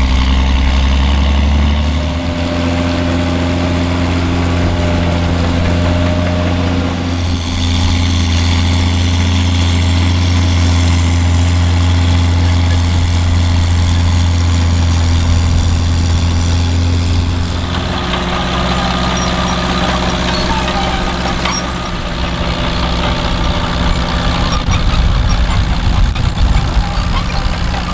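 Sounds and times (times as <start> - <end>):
diesel engine droning: 0.0 - 27.9.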